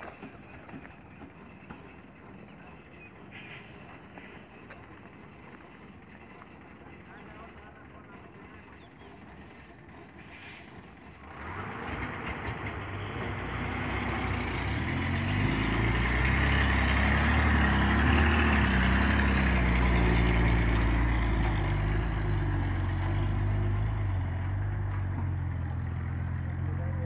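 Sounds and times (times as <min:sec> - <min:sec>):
truck diesel engine driving past: 0:00.0 - 0:27.0.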